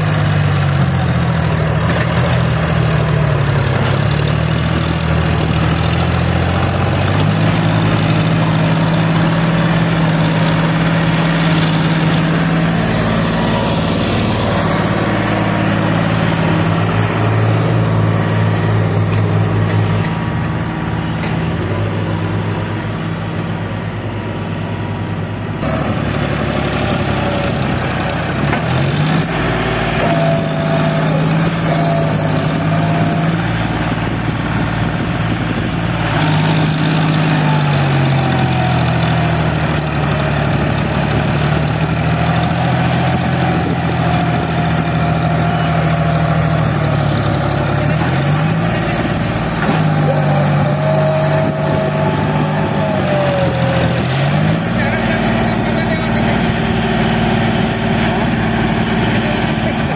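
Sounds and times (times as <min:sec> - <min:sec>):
tractor diesel engine working: 0:00.0 - 0:59.9.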